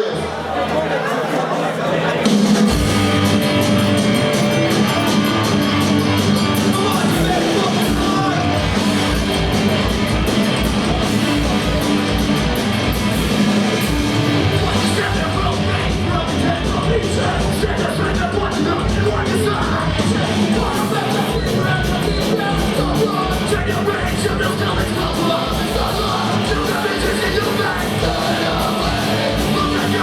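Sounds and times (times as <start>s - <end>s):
punk rock band playing: 0.0s - 30.0s.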